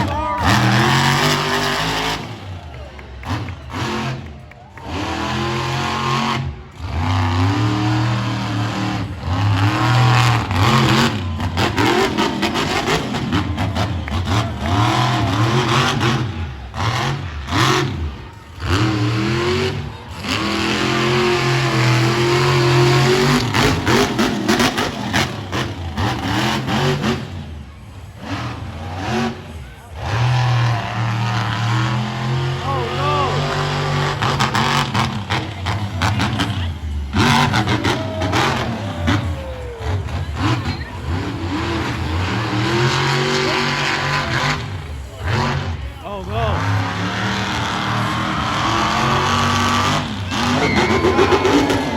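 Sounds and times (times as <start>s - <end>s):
monster truck engine revving: 0.0s - 51.9s.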